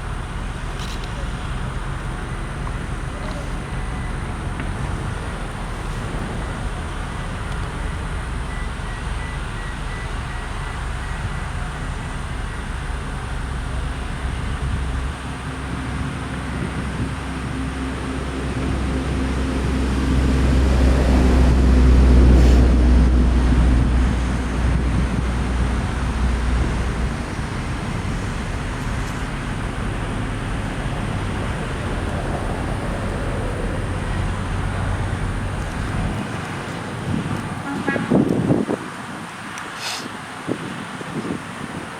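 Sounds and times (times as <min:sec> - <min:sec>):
road noise: 0:00.0 - 0:41.9
vehicle engine rumble: 0:00.0 - 0:41.9.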